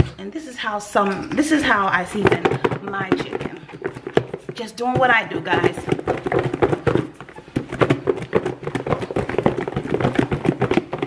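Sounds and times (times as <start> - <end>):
chicken rattling in plastic container: 1.6 - 11.0.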